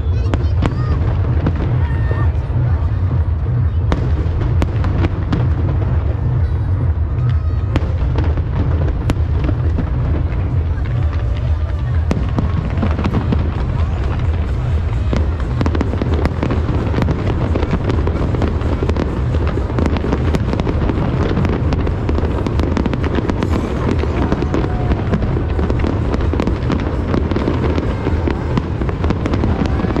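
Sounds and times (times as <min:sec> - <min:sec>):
fireworks crackling and banging: 0:00.0 - 0:30.0
low booming: 0:00.0 - 0:30.0.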